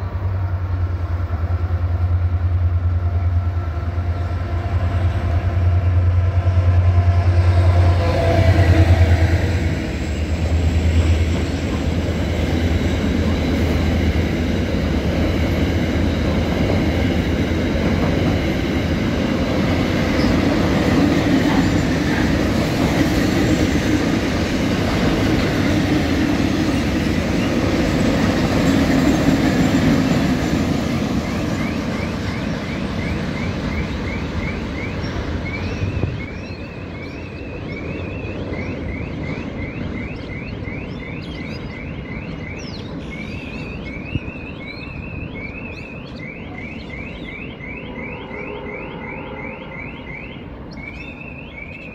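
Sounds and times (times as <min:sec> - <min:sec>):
train rolling past: 0:00.0 - 0:51.9.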